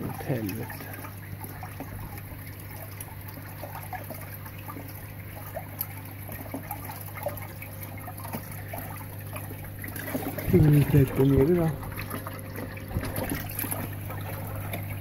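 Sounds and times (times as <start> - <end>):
small water drips: 0.0 - 15.0
steady low hum: 0.0 - 15.0
water trickling and splashing: 0.0 - 15.0.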